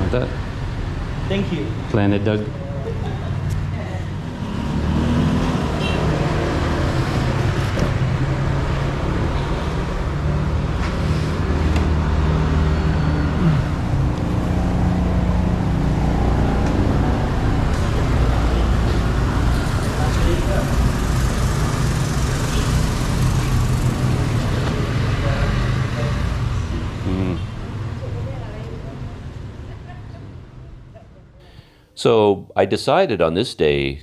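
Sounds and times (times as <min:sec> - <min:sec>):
vehicle engines rumbling: 0:00.0 - 0:31.8.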